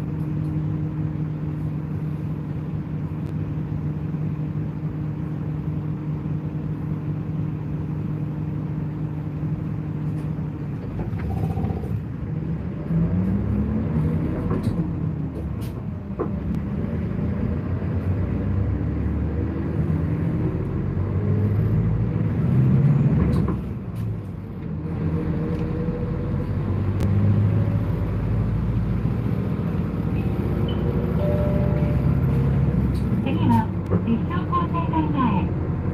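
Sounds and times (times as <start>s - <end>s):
bus engine accelerating: 0.0s - 35.9s
road rumble: 0.0s - 35.9s.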